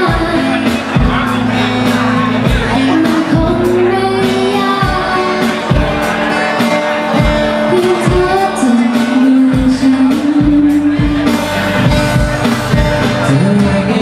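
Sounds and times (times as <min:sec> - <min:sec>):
drum beat and bass: 0:00.0 - 0:14.0
pop song with singing: 0:00.0 - 0:14.0.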